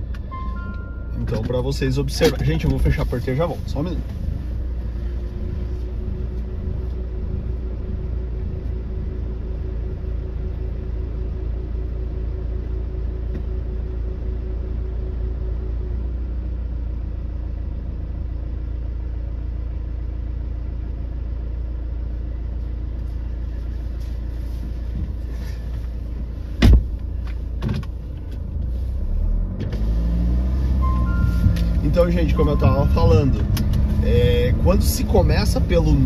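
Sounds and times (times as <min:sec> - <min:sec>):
truck engine idling: 0:00.0 - 0:29.1, 0:30.7 - 0:36.0.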